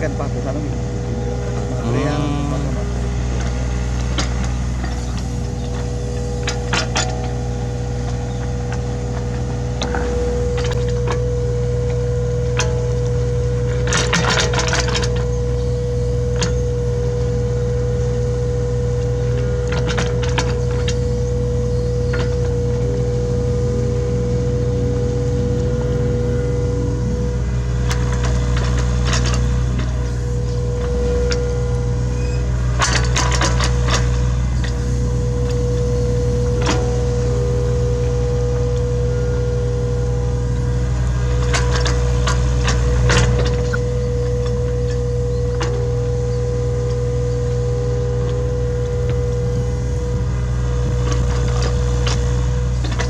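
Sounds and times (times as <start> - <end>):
excavator diesel engine running: 0.0 - 53.0
hydraulic whine: 0.0 - 53.0.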